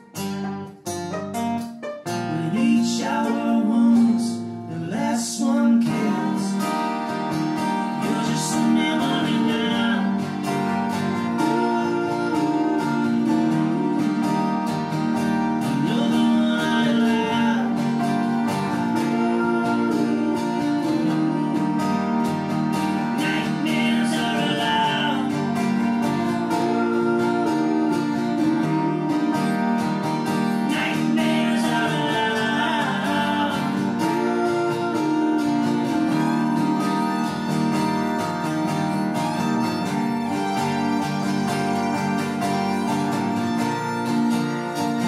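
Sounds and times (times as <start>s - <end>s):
fiddle playing melody: 0.0s - 4.5s, 6.9s - 45.0s
acoustic guitars strumming: 0.0s - 45.0s.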